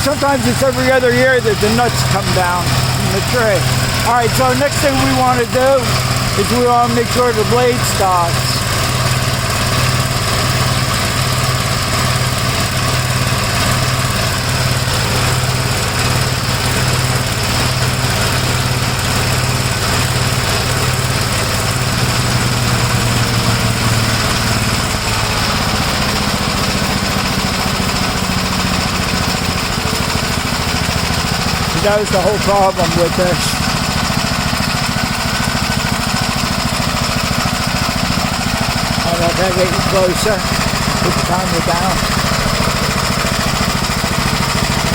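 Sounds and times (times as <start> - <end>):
single-cylinder engine running: 0.0 - 44.9.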